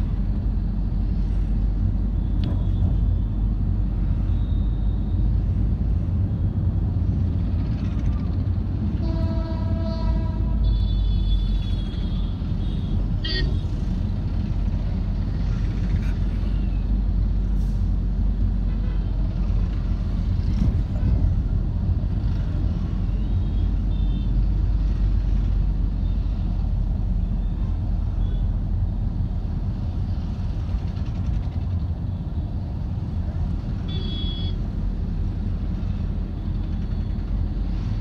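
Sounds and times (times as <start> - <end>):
engine and road noise rumble: 0.0 - 38.0.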